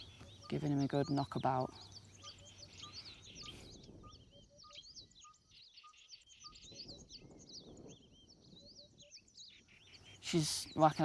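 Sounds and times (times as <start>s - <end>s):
birds chirping: 0.0s - 11.0s
low piping bird notes: 0.0s - 11.0s.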